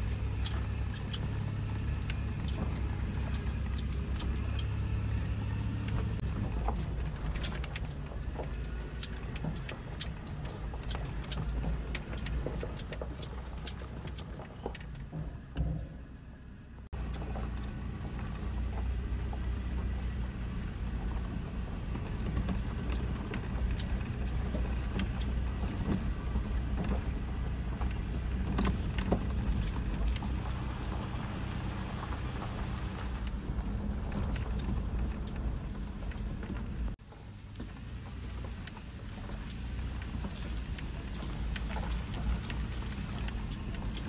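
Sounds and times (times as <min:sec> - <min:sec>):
gravel crackling under tyres: 0:00.0 - 0:44.0
low rumble of engine and tyres: 0:00.0 - 0:44.0.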